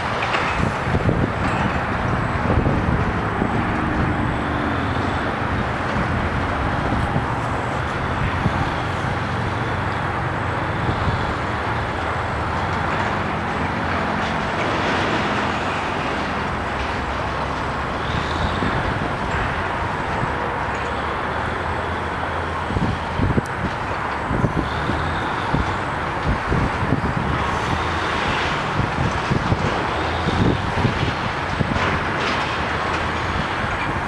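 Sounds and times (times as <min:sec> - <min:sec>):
crane diesel engine: 0:00.0 - 0:34.0
highway traffic noise: 0:00.0 - 0:34.0
wind: 0:00.0 - 0:34.0.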